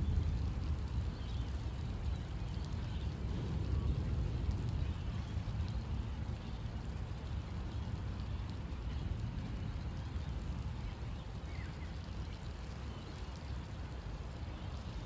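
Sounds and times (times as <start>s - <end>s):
rain rumbling: 0.0s - 15.0s
raindrops pattering: 0.0s - 15.0s.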